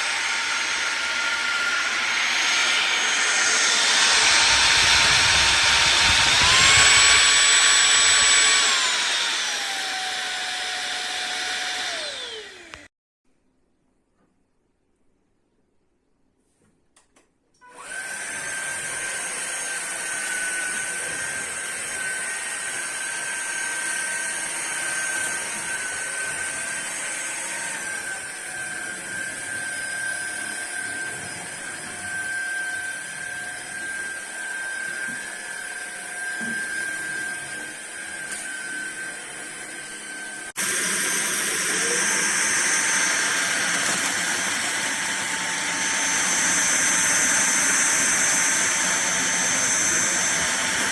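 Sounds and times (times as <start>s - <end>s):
vacuum cleaner motor whining: 0.0s - 12.9s, 17.6s - 50.9s.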